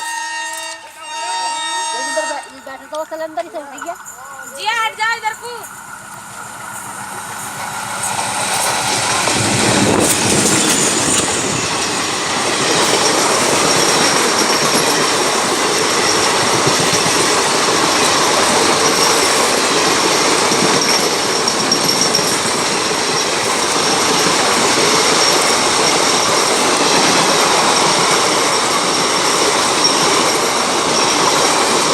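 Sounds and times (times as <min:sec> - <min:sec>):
train running on rails: 0:00.0 - 0:31.9.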